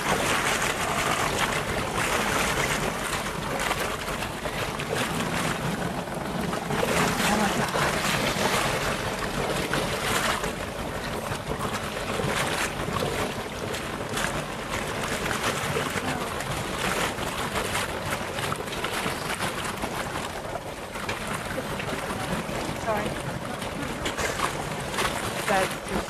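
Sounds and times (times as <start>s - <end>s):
low rumble of boat: 0.0s - 26.0s.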